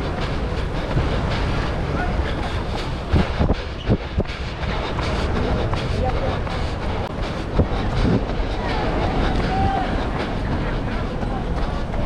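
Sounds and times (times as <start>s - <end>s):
outdoor street noise: 0.0s - 12.0s
wind rumbling on microphone: 0.0s - 12.0s.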